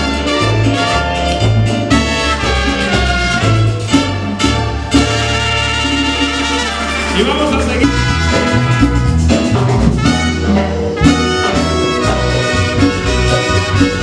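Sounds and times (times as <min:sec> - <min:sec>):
brass horns: 0:00.0 - 0:14.0
pulsing bass line: 0:00.0 - 0:14.0.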